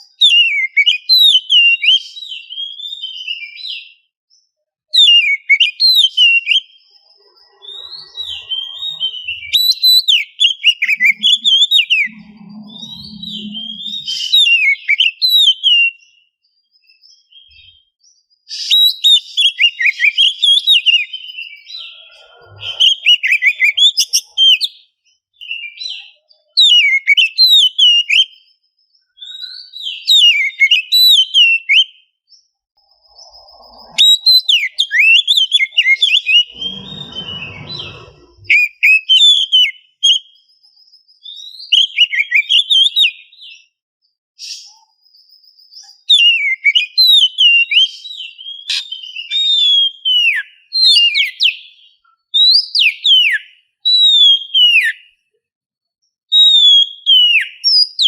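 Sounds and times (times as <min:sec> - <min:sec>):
bird singing whistled phrases: 0:00.0 - 0:04.1, 0:05.0 - 0:17.9, 0:18.5 - 0:32.1, 0:32.9 - 0:43.6, 0:44.4 - 0:55.2, 0:56.3 - 0:58.0.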